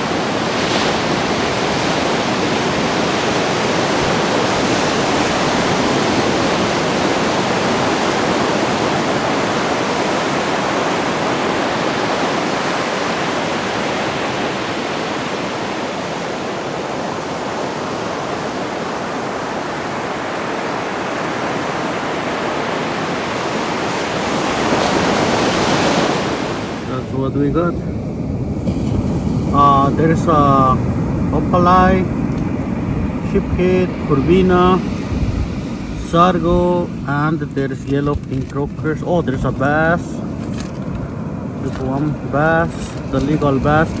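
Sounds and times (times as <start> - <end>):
ocean surf breaking: 0.0 - 44.0.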